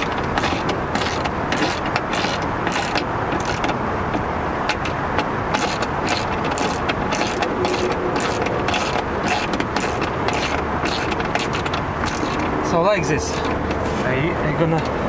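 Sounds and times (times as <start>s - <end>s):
socket ratchet clicking: 0.0s - 12.5s
steady noisy background: 0.0s - 15.0s.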